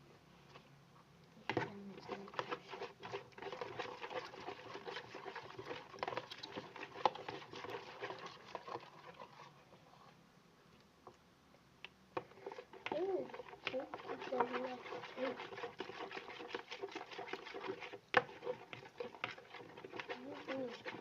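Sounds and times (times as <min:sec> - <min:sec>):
slime squelching: 0:01.4 - 0:09.6, 0:12.2 - 0:21.0.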